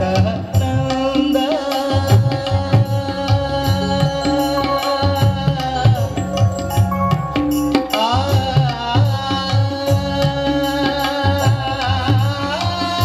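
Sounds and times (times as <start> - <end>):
man singing: 0.0 - 7.1, 7.7 - 13.0
keyboard: 0.0 - 13.0
tabla rhythm: 0.0 - 13.0.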